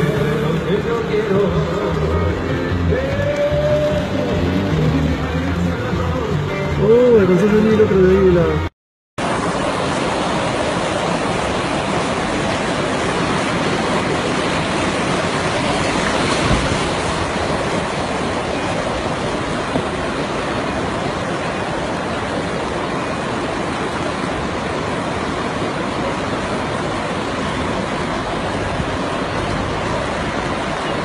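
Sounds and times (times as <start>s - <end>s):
floodwater rushing across road: 0.0s - 31.0s.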